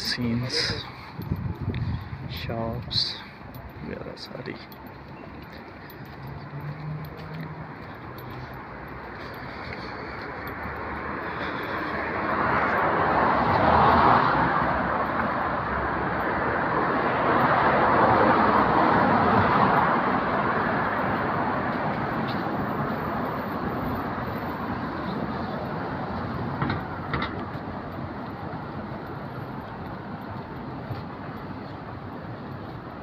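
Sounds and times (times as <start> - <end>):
vehicles passing on road: 0.0 - 33.0.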